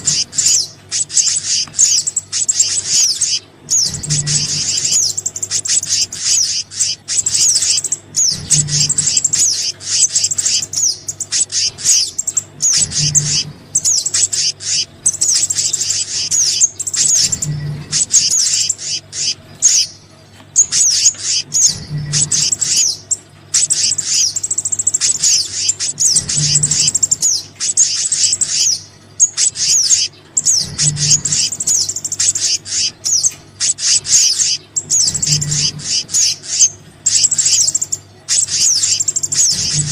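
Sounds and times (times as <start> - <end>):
faint low hum: 0.0 - 39.9
songbird chirps and trills: 0.0 - 39.9.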